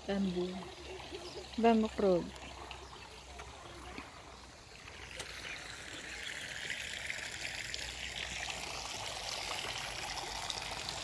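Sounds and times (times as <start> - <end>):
running water pouring: 0.0 - 11.0.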